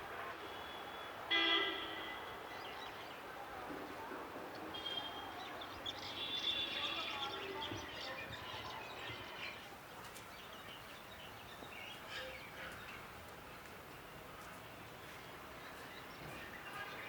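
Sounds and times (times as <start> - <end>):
city background din: 0.0 - 17.0
faint distant voices: 1.9 - 17.0.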